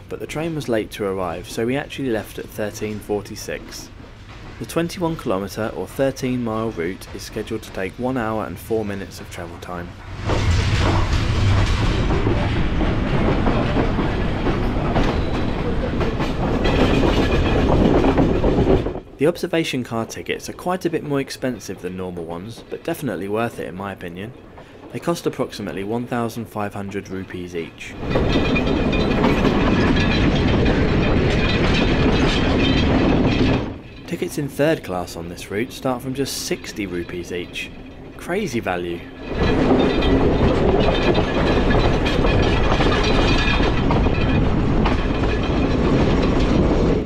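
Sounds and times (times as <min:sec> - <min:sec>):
train wheels clattering on rails: 0:00.0 - 0:47.0.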